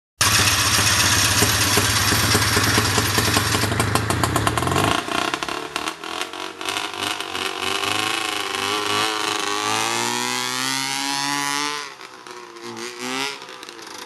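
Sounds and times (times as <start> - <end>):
two-stroke engine revving and idling: 0.2 - 14.0.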